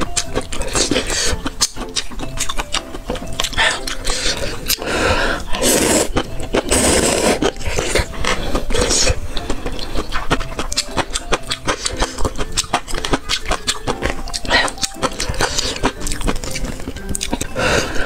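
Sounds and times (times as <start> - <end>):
wet chewing: 0.0 - 18.0
mouth clicks: 0.2 - 18.0
noodle slurping: 0.5 - 18.0.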